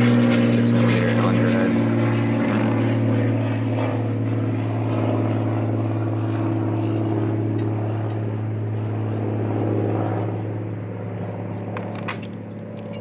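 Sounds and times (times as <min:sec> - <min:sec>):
steady engine-like drone: 0:00.0 - 0:13.0.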